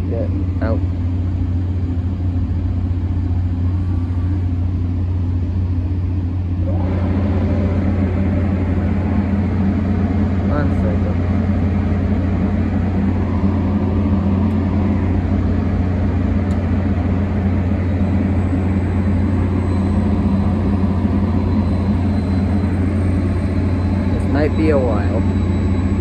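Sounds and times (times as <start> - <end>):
stationary train droning: 0.0 - 26.0.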